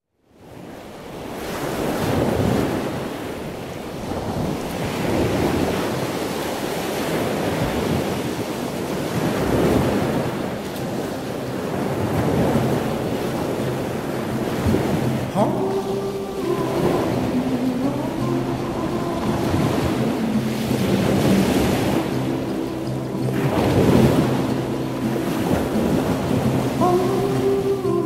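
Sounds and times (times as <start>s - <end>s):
waves breaking on pebbly beach: 0.4s - 27.9s.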